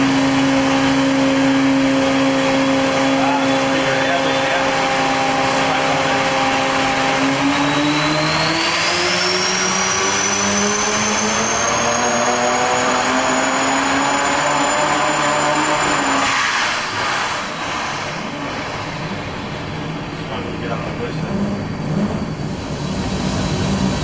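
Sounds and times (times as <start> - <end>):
high turbo whine: 0.0 - 24.0
rotary engine running under load: 0.0 - 24.0.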